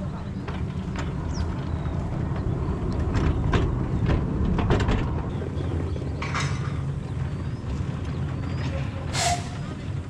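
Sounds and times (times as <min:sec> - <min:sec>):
locomotive engine rumble: 0:00.0 - 0:10.0.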